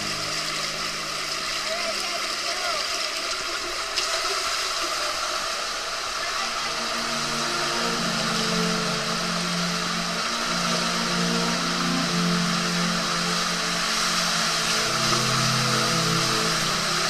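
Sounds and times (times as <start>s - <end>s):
water rushing through waterslide tube: 0.0s - 17.0s.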